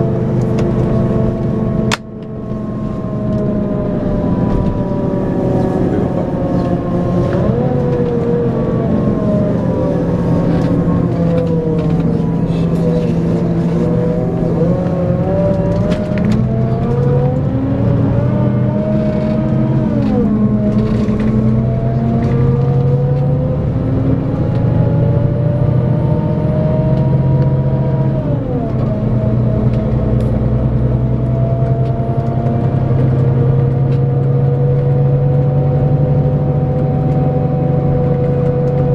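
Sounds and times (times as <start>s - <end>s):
diesel engine accelerating: 0.0s - 38.9s.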